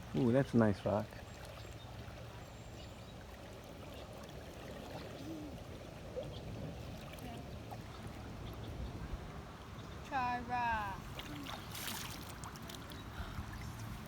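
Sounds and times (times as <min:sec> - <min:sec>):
river water flowing: 0:00.0 - 0:14.0.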